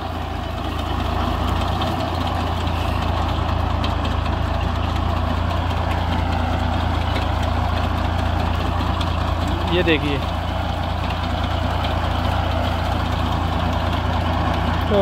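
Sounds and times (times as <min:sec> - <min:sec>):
clatter of soil and potatoes: 0:00.0 - 0:15.0
tractor engine running: 0:00.0 - 0:15.0.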